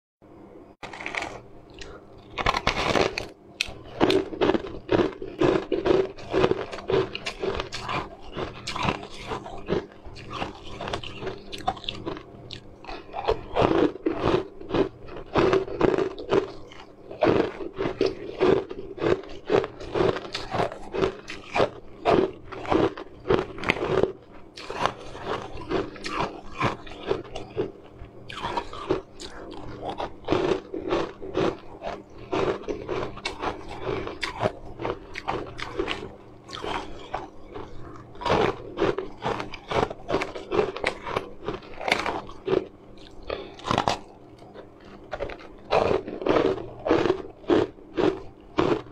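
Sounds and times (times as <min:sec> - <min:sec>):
person crunching ice: 0:00.8 - 0:27.7, 0:28.3 - 0:48.9.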